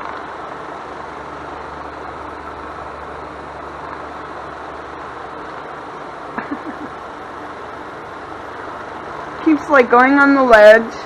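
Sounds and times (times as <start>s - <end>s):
low background hum and hiss: 0.0s - 11.0s.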